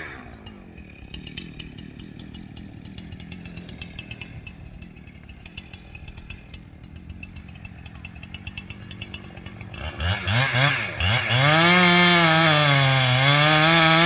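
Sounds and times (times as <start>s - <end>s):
chainsaw engine idling: 0.0s - 14.0s.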